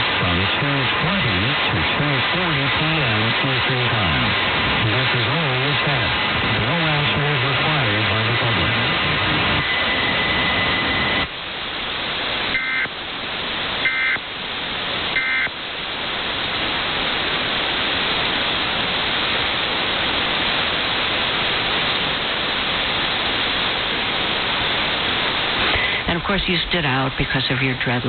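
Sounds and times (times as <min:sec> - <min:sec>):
radio hiss and static: 0:00.0 - 0:28.0.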